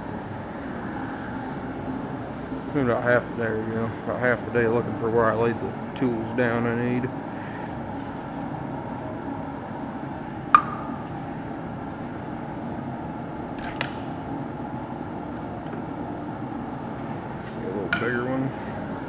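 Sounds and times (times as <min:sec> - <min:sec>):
shop background hum: 0:00.0 - 0:19.0.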